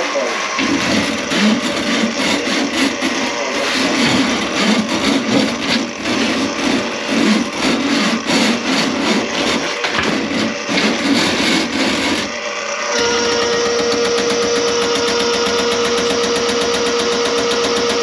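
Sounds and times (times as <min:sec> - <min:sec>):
drain snake grinding: 0:00.0 - 0:18.0.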